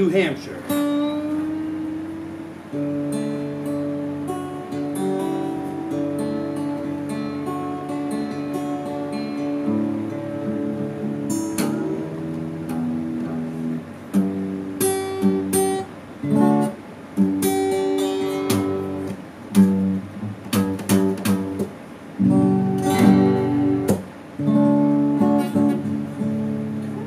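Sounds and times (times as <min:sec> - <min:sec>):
acoustic guitar strummed chords: 0:00.0 - 0:27.0.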